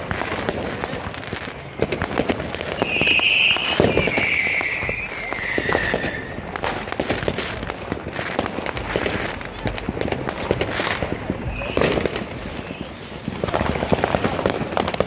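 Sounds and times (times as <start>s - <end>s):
firecrackers popping and banging: 0.0s - 15.0s
whistling firework: 0.0s - 15.0s.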